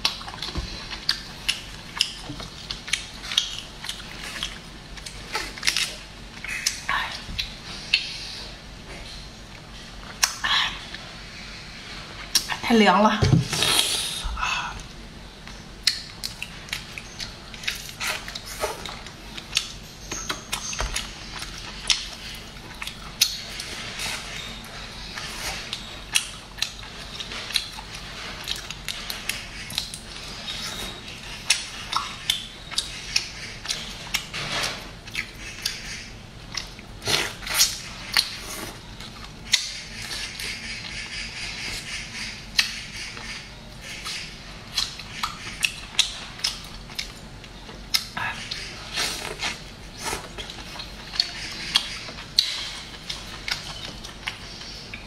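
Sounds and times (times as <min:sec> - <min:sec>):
chewing: 0:00.0 - 0:11.1, 0:14.8 - 0:55.0.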